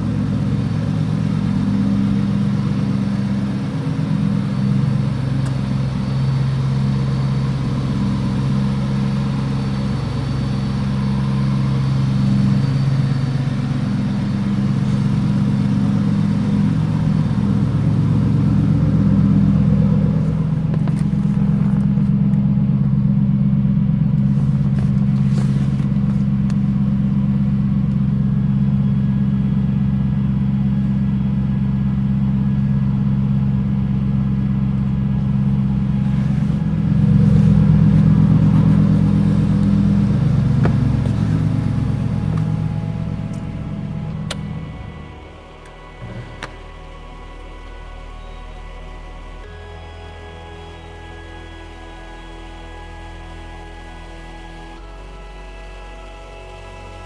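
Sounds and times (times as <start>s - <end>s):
car engine running steadily: 0.0s - 57.0s.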